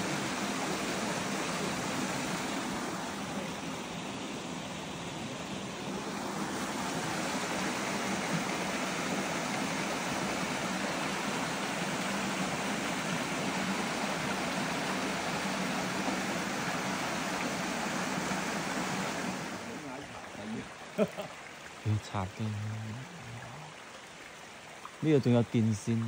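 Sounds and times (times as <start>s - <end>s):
water rushing in stream: 0.0s - 26.0s.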